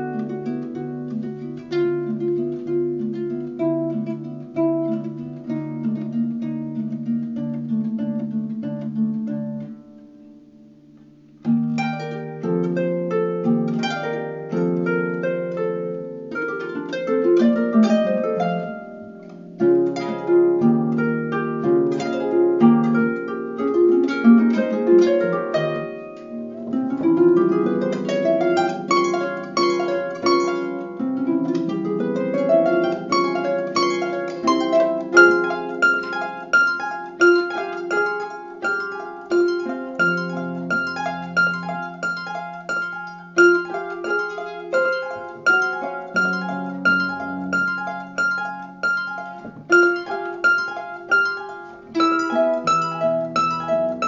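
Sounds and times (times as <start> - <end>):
harp playing slow piece: 0.0 - 54.0.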